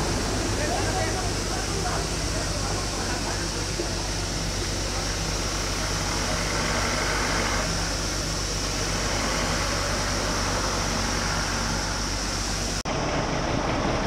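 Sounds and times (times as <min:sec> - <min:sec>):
engine idling: 0:00.0 - 0:14.0
outdoor noise: 0:00.0 - 0:14.0.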